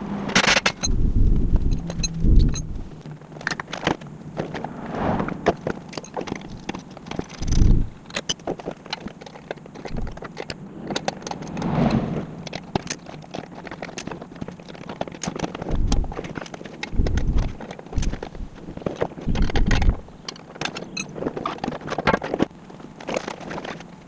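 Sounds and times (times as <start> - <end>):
metallic clicks and clinks of tools: 0.3 - 1.0, 1.6 - 2.8, 5.7 - 11.7, 12.4 - 23.9.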